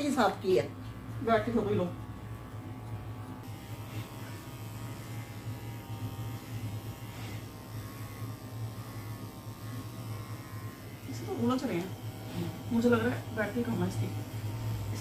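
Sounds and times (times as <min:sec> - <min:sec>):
electric hair clipper buzzing: 0:00.0 - 0:15.0.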